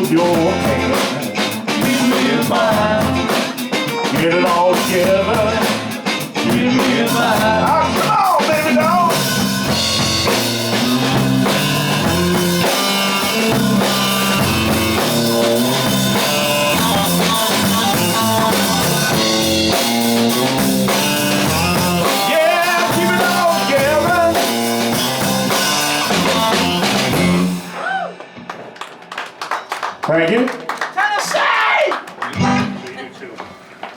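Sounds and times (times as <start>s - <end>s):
live rock band playing: 0.0s - 30.0s, 32.1s - 33.7s.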